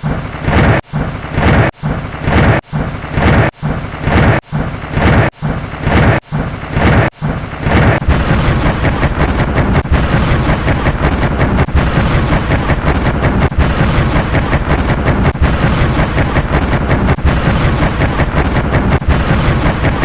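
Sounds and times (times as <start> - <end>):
thunderclap rumble: 0.0 - 20.0.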